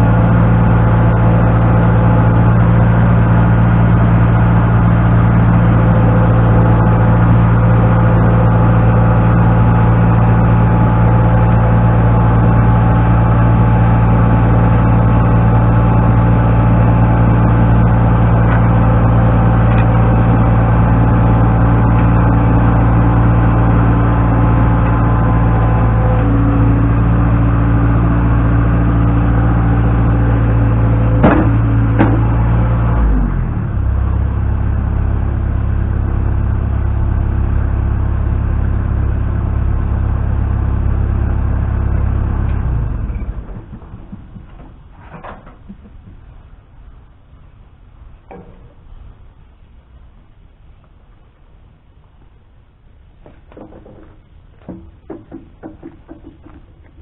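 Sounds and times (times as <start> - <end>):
machine engine running steadily: 0.0 - 57.0.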